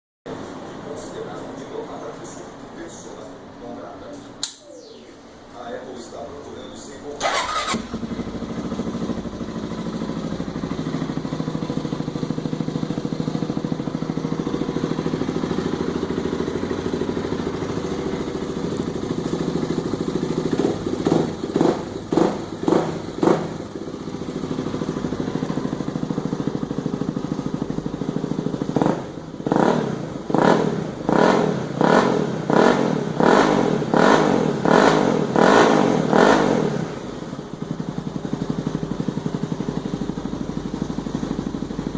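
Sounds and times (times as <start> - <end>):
motorcycle engine idling: 4.9 - 41.9
motorcycle engine revving: 7.1 - 41.9.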